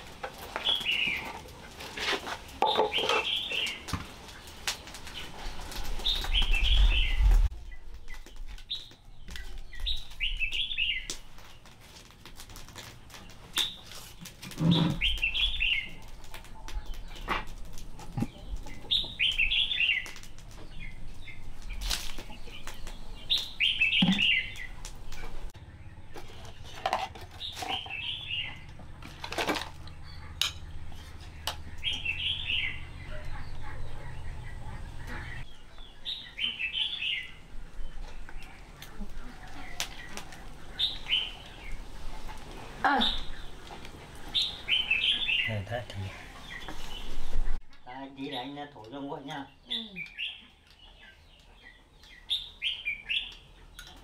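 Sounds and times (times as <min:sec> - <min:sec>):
small bird singing: 0:00.6 - 0:01.3, 0:02.7 - 0:05.3, 0:06.0 - 0:11.7, 0:13.1 - 0:17.5, 0:18.1 - 0:28.9, 0:29.8 - 0:41.9, 0:42.8 - 0:54.0.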